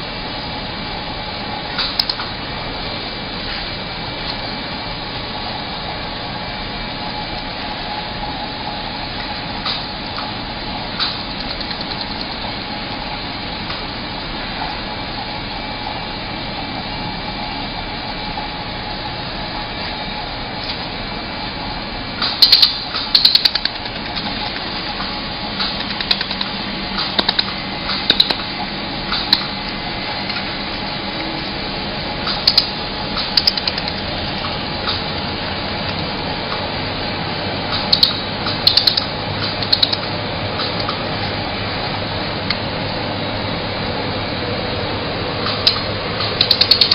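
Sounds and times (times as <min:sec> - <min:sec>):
machine running noise: 0:00.0 - 0:46.9.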